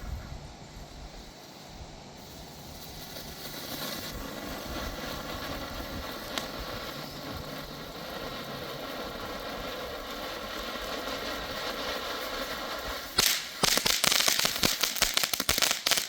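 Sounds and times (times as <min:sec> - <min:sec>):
firework hissing: 0:00.0 - 0:16.0
firework crackling pops: 0:02.2 - 0:16.0.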